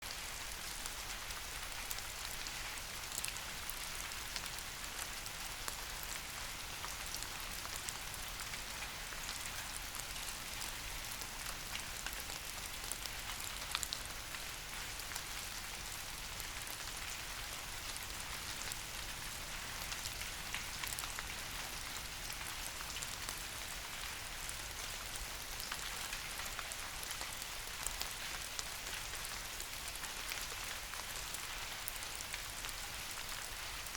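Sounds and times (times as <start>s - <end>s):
rain falling on leaves: 0.0s - 33.9s.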